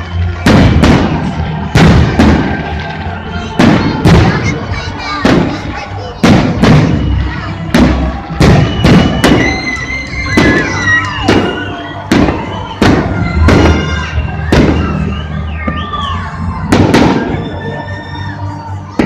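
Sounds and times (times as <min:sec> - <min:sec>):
fireworks bursting: 0:00.0 - 0:19.0
music: 0:00.0 - 0:19.0.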